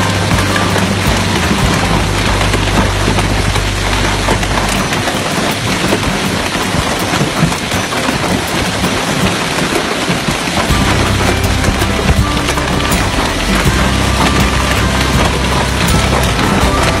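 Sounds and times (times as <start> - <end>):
low rumble: 0.0 - 9.7, 10.4 - 17.0
heavy hail pelting the ground: 0.0 - 17.0.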